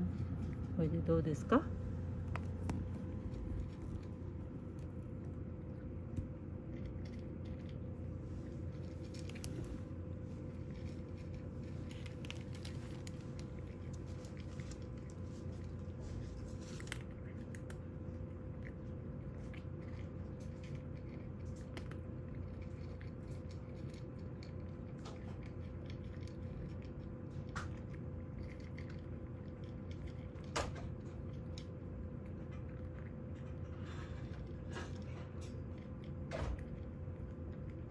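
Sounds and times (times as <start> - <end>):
cat crunching dry kibble: 0.0 - 37.9
steady low hum: 0.0 - 37.9.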